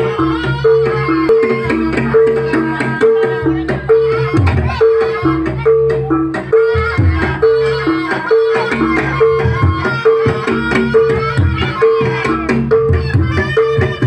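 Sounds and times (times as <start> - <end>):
hand drums beating: 0.0 - 14.0
wavering melody: 0.0 - 14.0.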